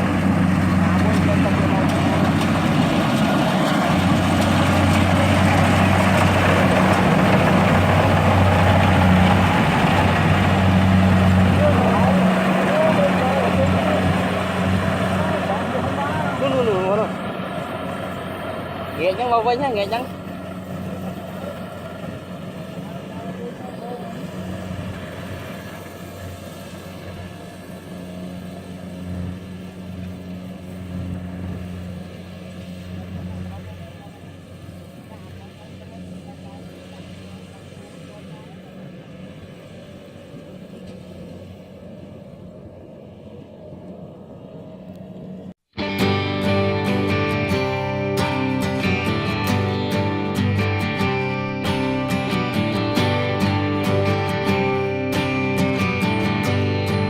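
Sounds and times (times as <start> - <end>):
farm machine engine humming: 0.0 - 57.0.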